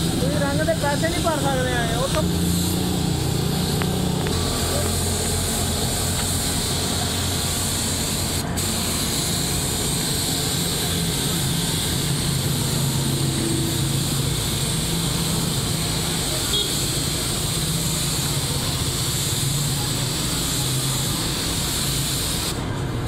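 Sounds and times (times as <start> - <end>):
spray gun hissing: 0.0 - 22.7.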